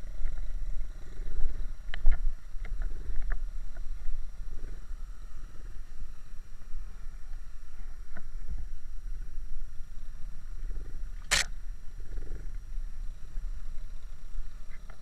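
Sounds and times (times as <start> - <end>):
trail bike engines rumbling: 0.0 - 15.0.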